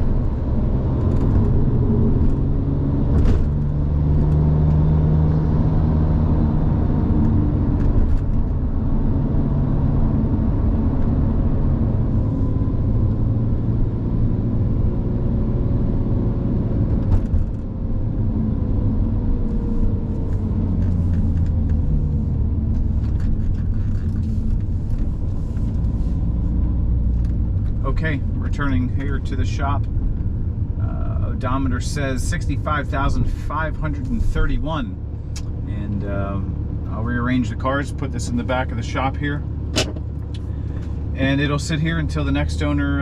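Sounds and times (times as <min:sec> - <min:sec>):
tyre and road noise: 0:00.0 - 0:37.5, 0:38.1 - 0:42.8
car engine running: 0:00.0 - 0:43.0.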